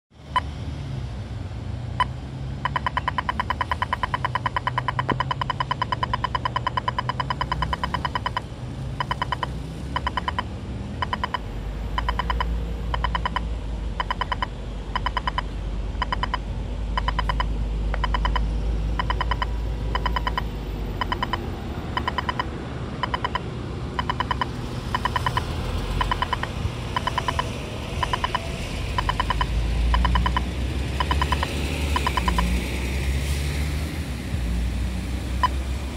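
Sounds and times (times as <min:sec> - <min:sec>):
pedestrian crossing ticking: 0:00.1 - 0:35.9
crossing button clicks: 0:02.0 - 0:32.5.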